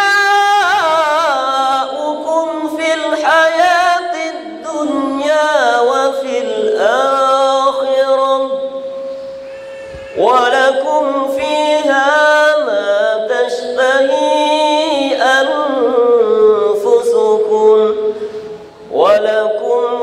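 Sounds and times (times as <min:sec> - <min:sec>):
man chanting recitation: 0:00.0 - 0:08.8, 0:10.1 - 0:18.2, 0:18.9 - 0:20.0.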